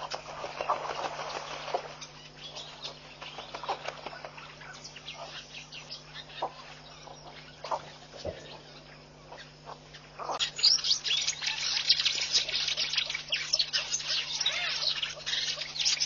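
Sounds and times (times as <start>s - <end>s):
birds chirping and calling: 0.0s - 16.0s
low electrical hum: 0.0s - 16.0s.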